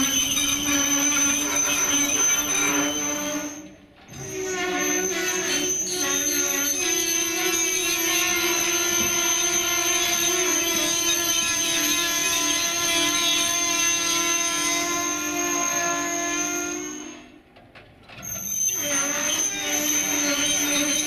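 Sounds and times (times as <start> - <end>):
locomotive running: 0.0 - 21.0.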